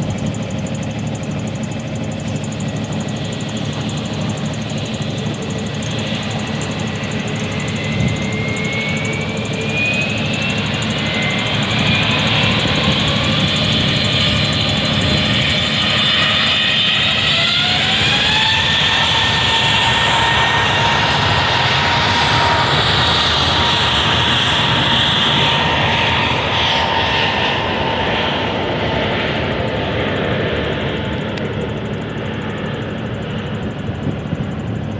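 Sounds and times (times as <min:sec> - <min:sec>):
aircraft engines whining: 0:00.0 - 0:34.9.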